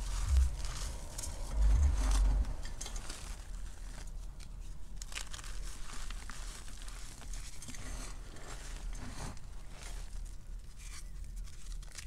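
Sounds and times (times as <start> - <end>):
chalk crunching and crackling: 0.0 - 12.0.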